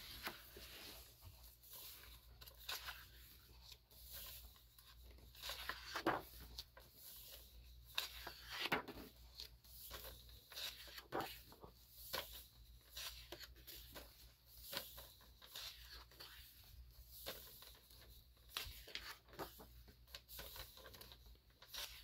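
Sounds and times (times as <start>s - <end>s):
book pages turning: 0.0s - 22.0s.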